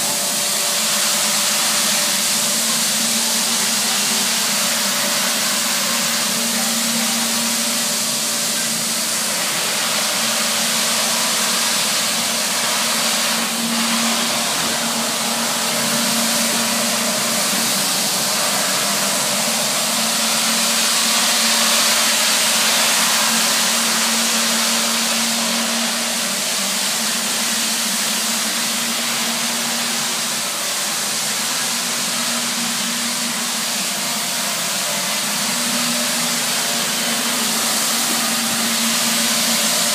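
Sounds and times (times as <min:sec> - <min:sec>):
vacuum motor rushing hiss: 0:00.0 - 0:39.9.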